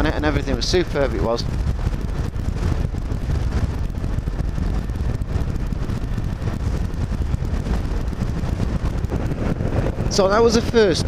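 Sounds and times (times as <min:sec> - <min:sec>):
vehicle rumble: 0:00.0 - 0:11.0
wind buffeting microphone: 0:00.0 - 0:11.0.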